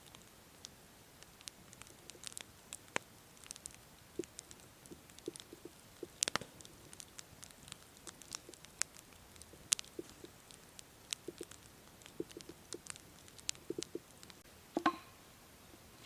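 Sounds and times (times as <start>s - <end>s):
campfire crackling and popping: 0.0s - 15.1s.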